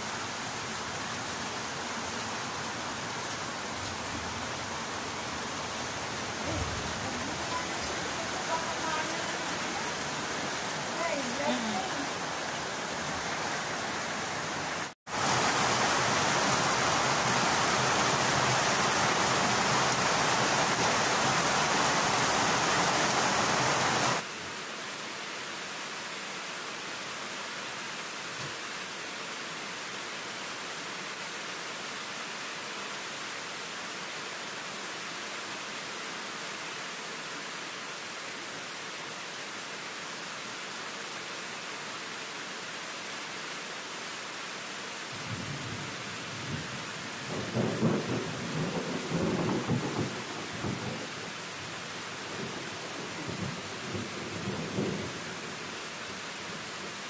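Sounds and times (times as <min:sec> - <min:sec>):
heavy rain on leaves and pavement: 0:00.0 - 0:57.0.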